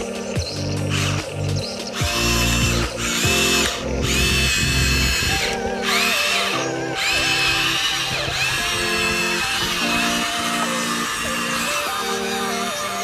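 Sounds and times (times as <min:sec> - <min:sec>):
background music: 0:00.0 - 0:13.0
toy electric motor whirring: 0:00.0 - 0:13.0.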